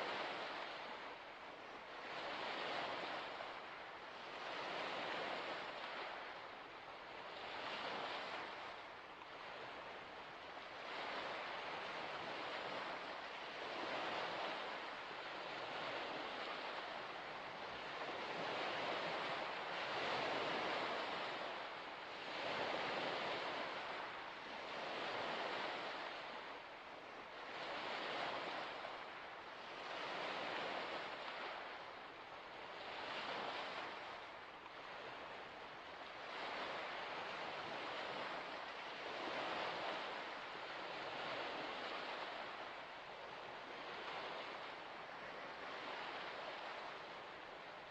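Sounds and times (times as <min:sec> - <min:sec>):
small waves washing on shore: 0:00.0 - 0:47.9.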